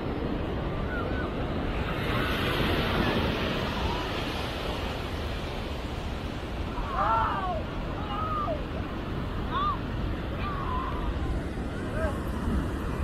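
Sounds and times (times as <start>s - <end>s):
ocean surf on beach: 0.0s - 13.0s.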